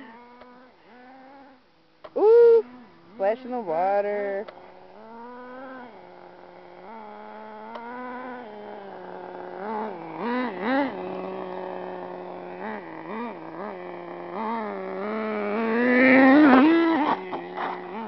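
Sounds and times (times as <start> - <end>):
rc truck engine buzzing: 0.0 - 18.0.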